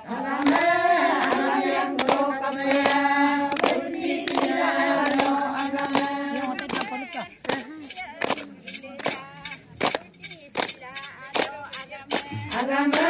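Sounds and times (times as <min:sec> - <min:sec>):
women singing in unison: 0:00.0 - 0:09.6, 0:10.8 - 0:13.0
hand claps: 0:00.0 - 0:13.0.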